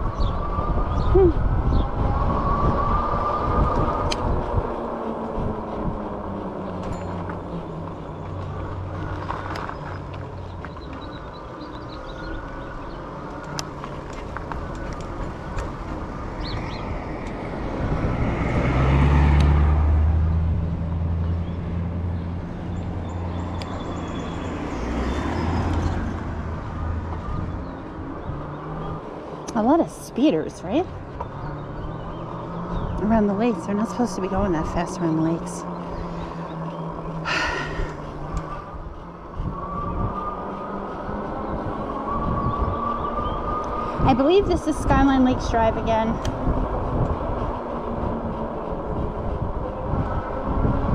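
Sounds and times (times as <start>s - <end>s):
car passing at speed: 0.0s - 50.9s
hub motor whine: 0.0s - 50.9s
vehicle passing: 0.0s - 50.9s
wind and road noise: 0.0s - 50.9s.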